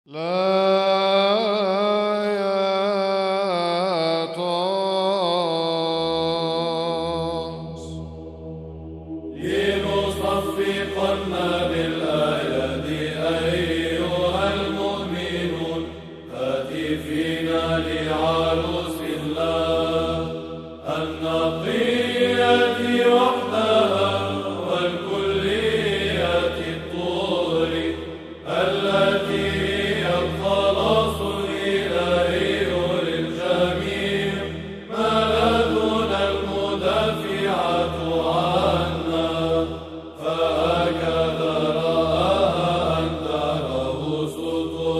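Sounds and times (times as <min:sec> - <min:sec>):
low held vocal drone: 0:00.1 - 0:44.9.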